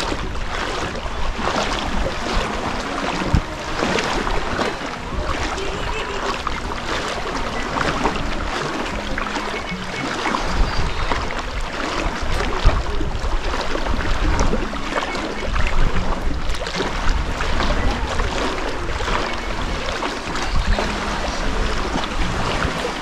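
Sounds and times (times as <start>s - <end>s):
water splashing from wading: 0.0s - 23.0s
wind on microphone: 0.0s - 23.0s.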